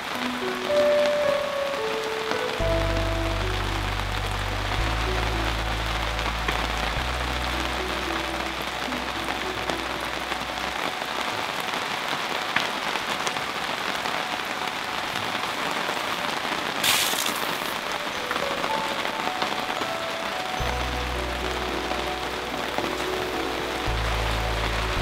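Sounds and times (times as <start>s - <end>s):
rain pattering: 0.0s - 25.0s.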